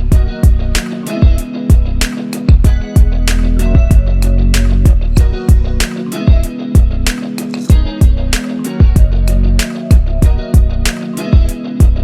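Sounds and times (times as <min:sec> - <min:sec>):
drum pattern with kick and cymbal: 0:00.0 - 0:12.0.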